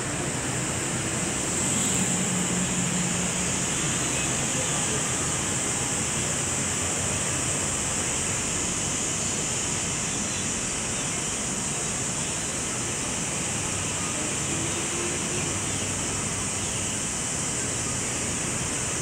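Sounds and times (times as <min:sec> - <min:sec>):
high hiss: 0:00.0 - 0:19.0
rushing outdoor ambience: 0:00.0 - 0:19.0.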